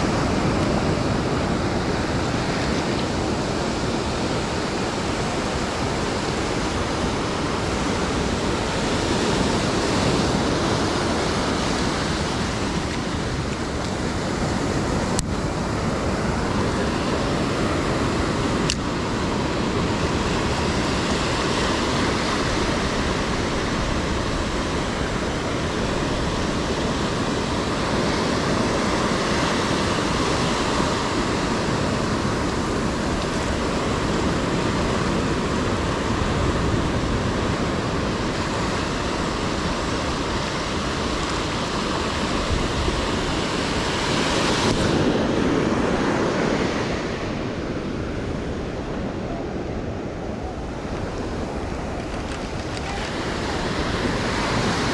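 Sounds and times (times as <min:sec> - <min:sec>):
ocean surf washing onto beach: 0:00.0 - 0:54.9.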